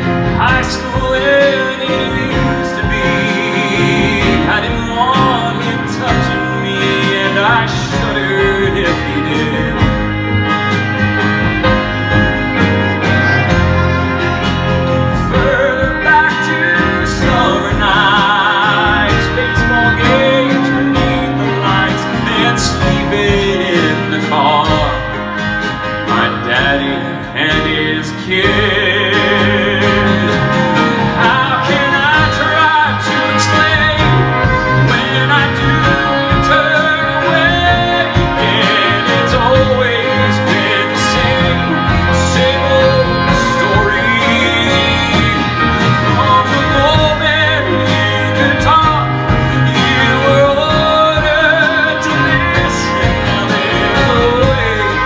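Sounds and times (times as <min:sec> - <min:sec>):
acoustic guitars: 0:00.0 - 0:55.0
fiddle: 0:00.0 - 0:55.0
person singing: 0:00.0 - 0:55.0
piano: 0:00.0 - 0:55.0
upright bass: 0:00.0 - 0:55.0.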